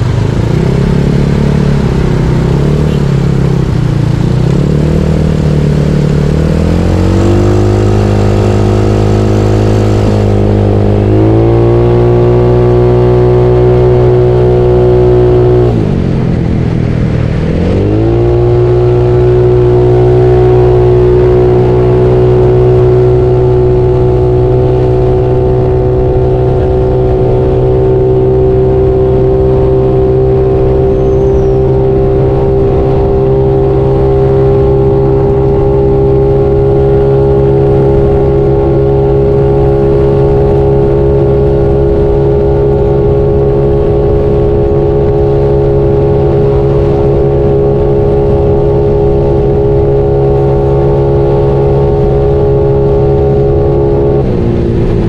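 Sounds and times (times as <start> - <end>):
scooter engine revving: 0.0 - 16.5, 17.5 - 55.0.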